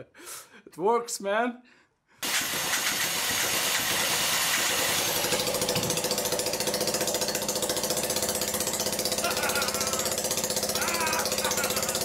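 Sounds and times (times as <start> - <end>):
small engine firing rapidly: 2.2 - 12.0.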